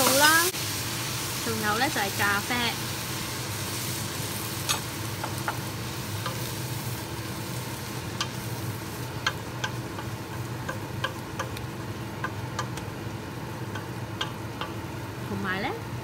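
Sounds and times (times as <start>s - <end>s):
onions sizzling in a pot: 0.0s - 16.0s.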